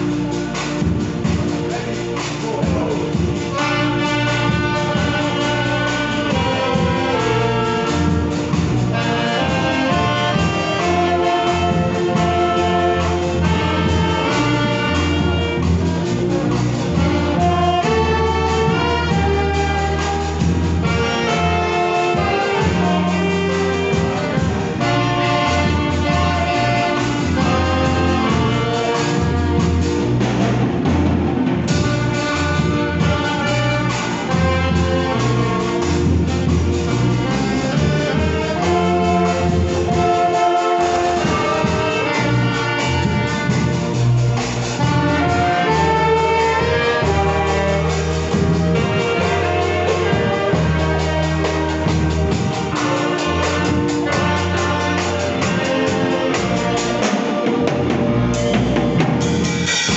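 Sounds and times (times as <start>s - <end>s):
saxophones and violins playing a hymn: 0.0s - 59.9s
steady bass line: 0.0s - 59.9s.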